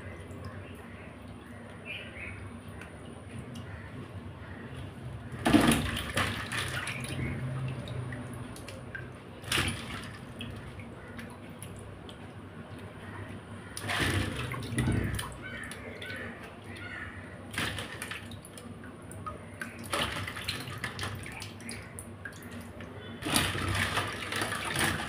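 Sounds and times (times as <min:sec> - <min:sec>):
water sloshing in a pan: 0:00.0 - 0:25.0.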